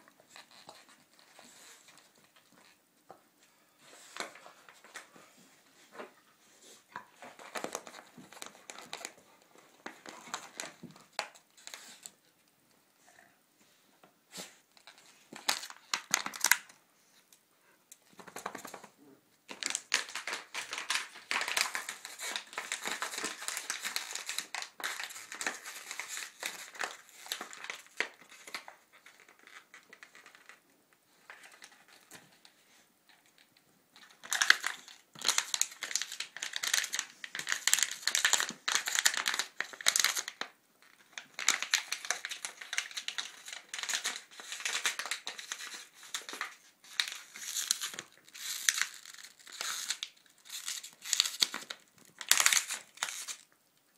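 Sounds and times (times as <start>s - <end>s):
plastic toy crinkling: 0.3s - 2.8s, 6.9s - 12.2s, 14.8s - 16.8s, 19.5s - 32.4s, 33.1s - 53.6s.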